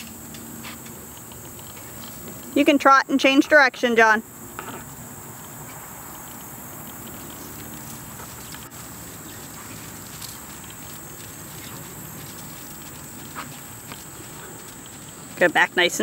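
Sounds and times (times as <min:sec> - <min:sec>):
horse hoofbeats trotting on dirt: 0:00.0 - 0:03.8, 0:04.6 - 0:16.0
high insect buzz: 0:00.0 - 0:16.0.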